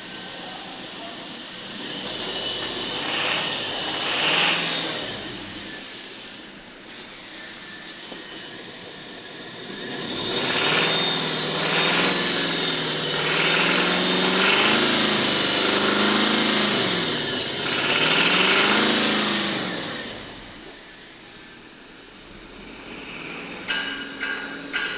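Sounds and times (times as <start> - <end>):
high-pitched whine: 0.0 - 24.9
car engine revving: 1.3 - 20.8, 22.2 - 24.9.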